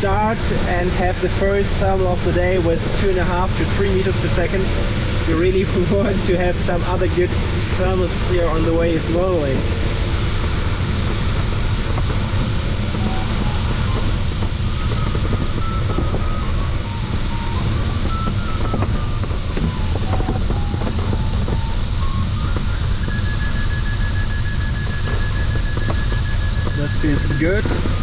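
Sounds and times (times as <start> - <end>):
cockpit airflow rushing: 0.0 - 28.0.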